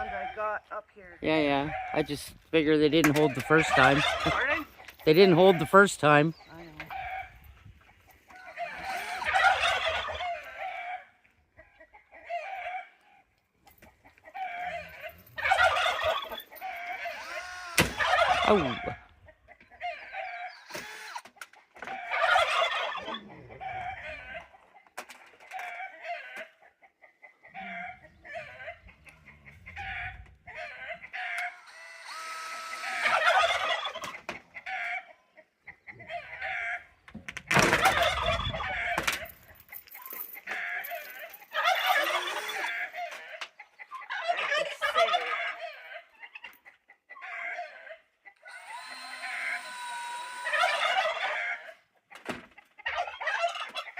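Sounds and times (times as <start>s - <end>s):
poultry calling: 0.0s - 2.4s, 3.0s - 13.2s, 13.8s - 39.5s, 40.4s - 53.9s.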